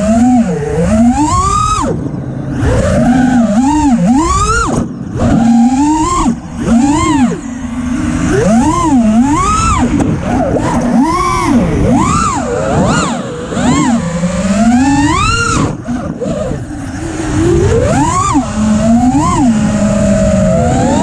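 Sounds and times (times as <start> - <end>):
drone motors and propellers whining: 0.0 - 21.0.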